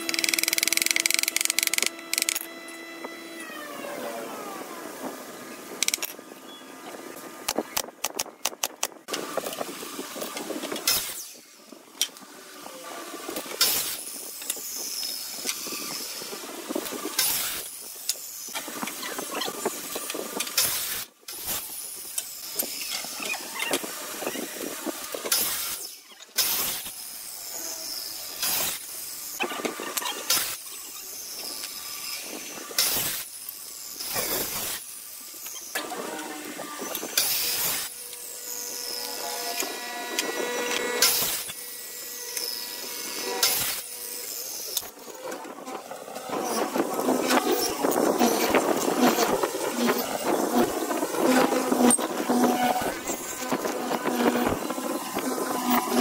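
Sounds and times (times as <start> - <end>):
miter saw cutting wood: 0.0 - 5.8, 12.2 - 56.0.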